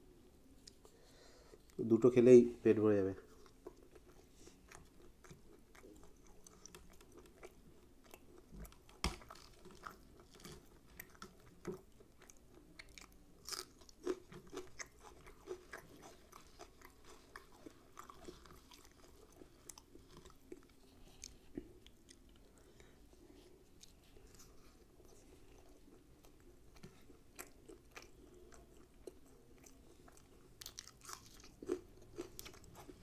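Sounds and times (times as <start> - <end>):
person chewing: 3.3 - 33.0.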